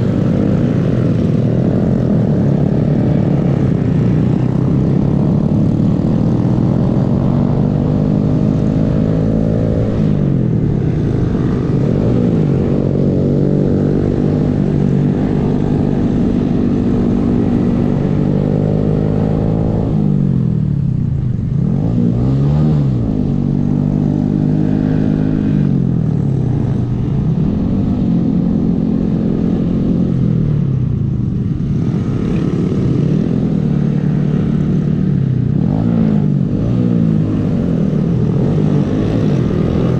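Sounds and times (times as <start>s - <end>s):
motorcycle engine revving: 0.0s - 39.9s
wind rumble: 0.0s - 39.9s.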